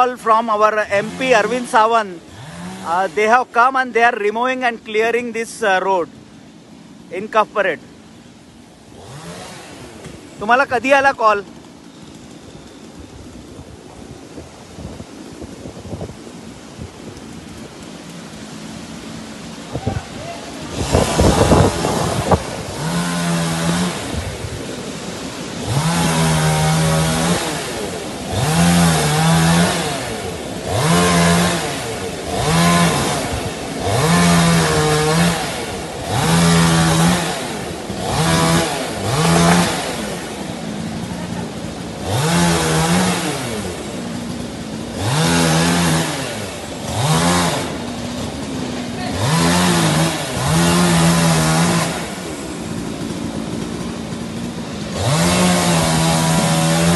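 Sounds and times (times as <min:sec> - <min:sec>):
chainsaw revving: 0:00.0 - 0:14.4, 0:15.0 - 0:56.9.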